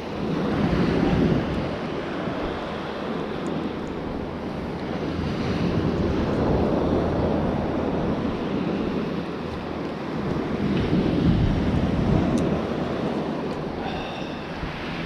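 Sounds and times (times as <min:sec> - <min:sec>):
sea waves washing on shore: 0:00.0 - 0:15.0
wind rumbling on microphone: 0:00.0 - 0:15.0.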